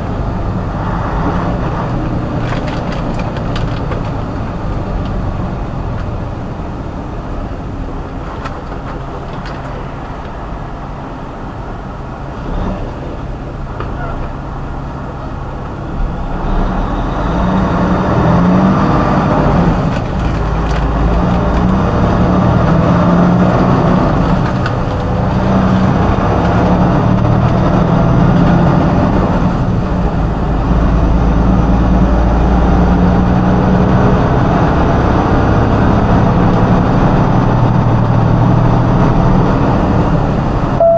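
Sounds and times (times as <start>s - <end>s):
road noise: 0.0s - 40.9s
truck engine droning: 0.0s - 40.9s.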